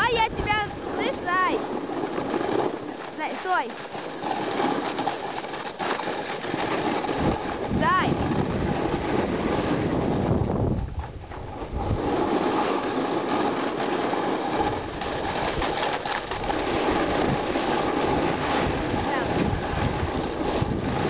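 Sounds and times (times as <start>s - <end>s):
snow scraping under sled: 0.0s - 21.0s
wind buffeting microphone: 0.0s - 21.0s.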